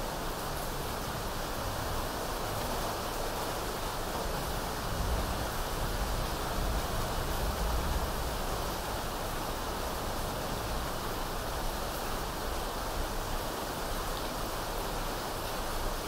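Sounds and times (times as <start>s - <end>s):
rain: 0.0s - 16.0s.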